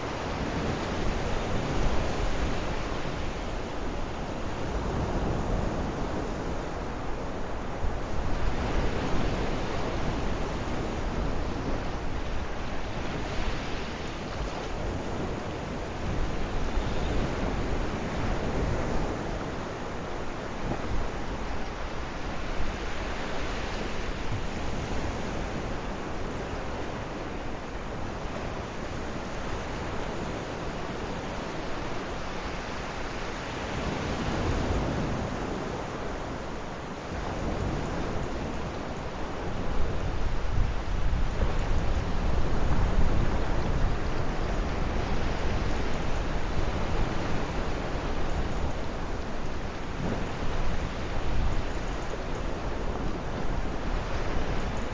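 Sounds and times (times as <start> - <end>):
sea waves washing on shore: 0.0 - 54.9
wind buffeting microphone: 0.0 - 54.9.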